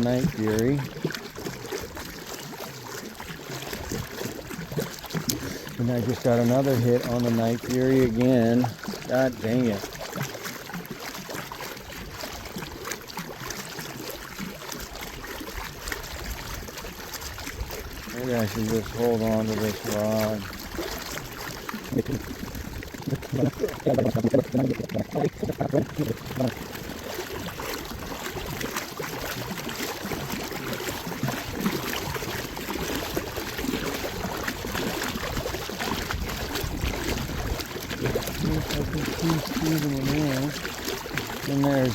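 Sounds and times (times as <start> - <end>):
water splashing around boat: 0.0 - 41.9.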